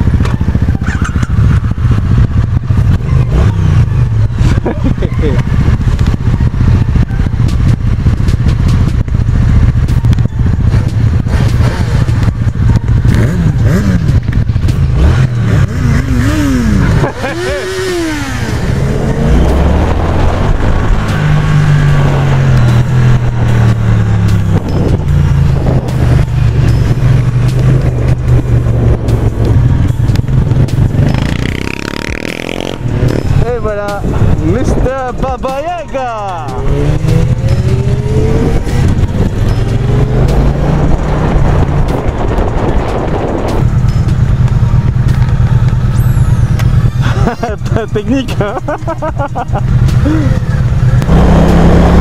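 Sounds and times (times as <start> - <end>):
wind rushing over microphone: 0.0 - 35.9, 36.5 - 49.2
motorcycle engine running: 0.0 - 52.0.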